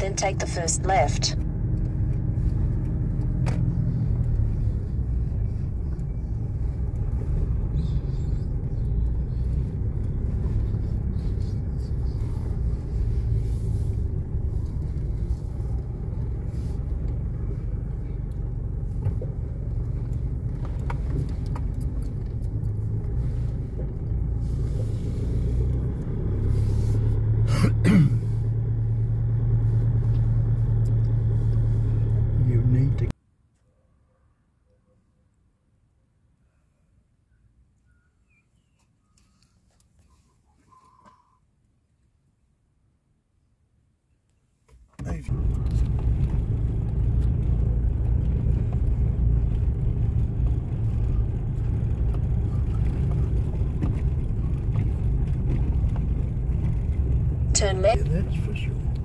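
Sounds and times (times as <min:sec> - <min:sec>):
car engine and tyre rumble: 0:00.0 - 0:33.2, 0:35.8 - 0:59.0.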